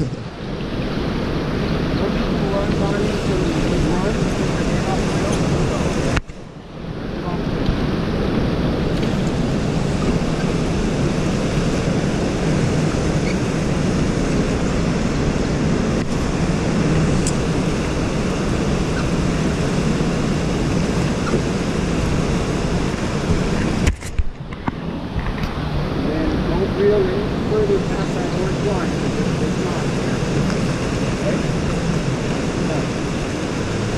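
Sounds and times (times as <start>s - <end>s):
river water rushing through rapids: 0.0s - 33.9s.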